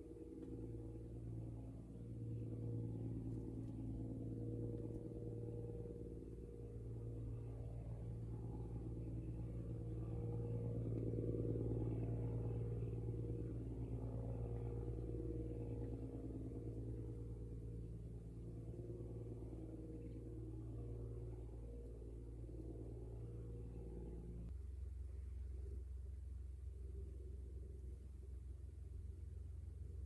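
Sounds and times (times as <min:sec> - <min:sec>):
distant boat diesel engine drone: 0:00.0 - 0:30.0.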